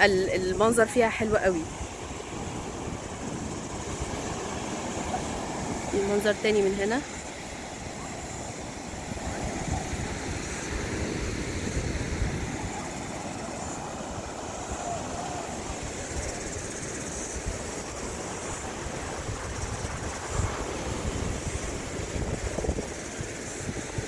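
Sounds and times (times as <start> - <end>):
waves breaking on beach: 0.0 - 24.0
wind rumbling on microphone: 0.0 - 24.0.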